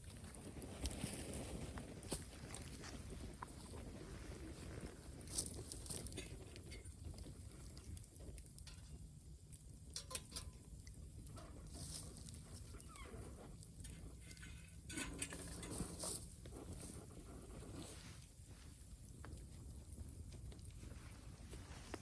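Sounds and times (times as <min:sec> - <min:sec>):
bonfire crackling and popping: 0:00.0 - 0:22.0
low steady rumble: 0:00.0 - 0:22.0.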